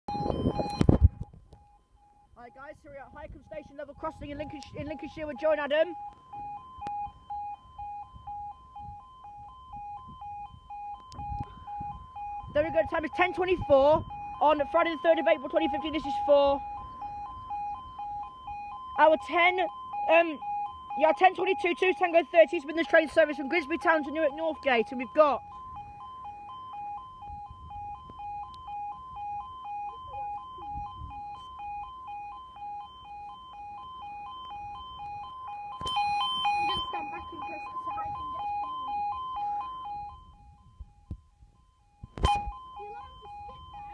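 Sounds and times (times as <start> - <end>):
two-tone crossing alarm: 0.1 - 43.9.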